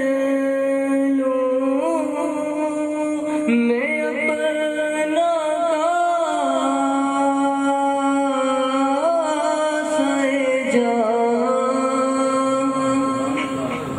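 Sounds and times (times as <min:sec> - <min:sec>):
men singing devotional poem: 0:00.0 - 0:13.9.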